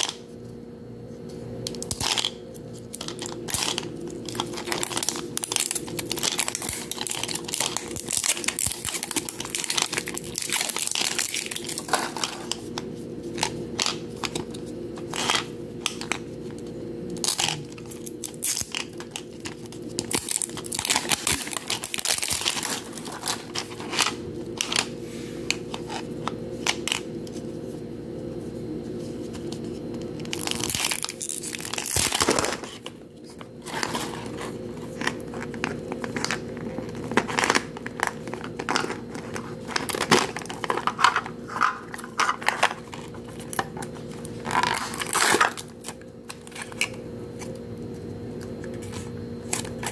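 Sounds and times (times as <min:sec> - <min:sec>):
plastic wrapping crinkling: 0:01.7 - 0:27.4, 0:29.0 - 0:47.6.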